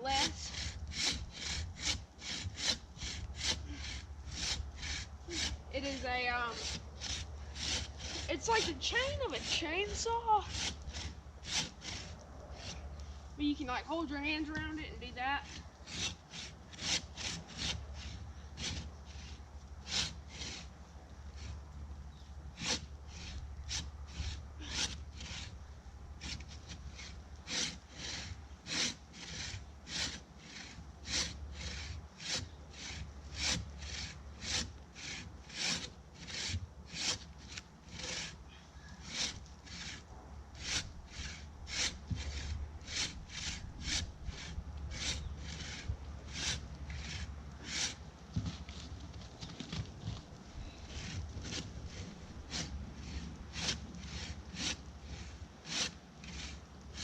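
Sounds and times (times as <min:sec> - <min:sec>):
bow saw cutting wood: 0:00.0 - 0:13.1, 0:13.9 - 0:21.7, 0:22.5 - 0:49.8, 0:50.6 - 0:57.0.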